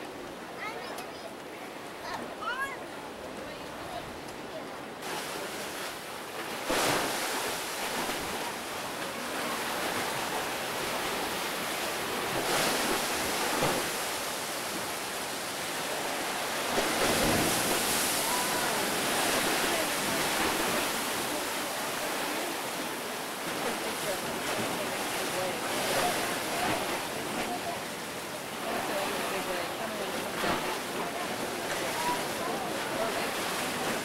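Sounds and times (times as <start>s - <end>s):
sea waves surging into rocks: 1.6s - 34.0s.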